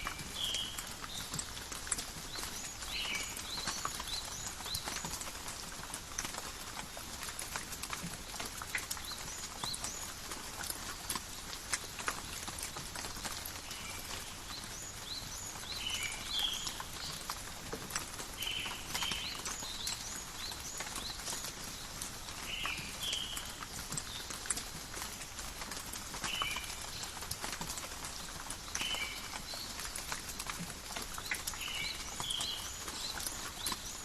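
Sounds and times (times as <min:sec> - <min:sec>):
drops dripping off leaves: 0:00.0 - 0:34.0
light rain in a forest: 0:00.0 - 0:34.0.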